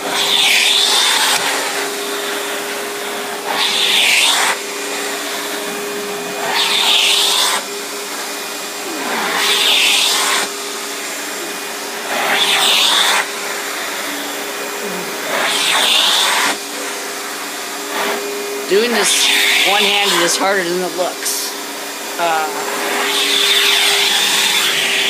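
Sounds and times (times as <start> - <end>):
vacuum cleaner motor hum: 0.0 - 25.0
vacuum nozzle rushing hiss on rug: 0.0 - 25.0.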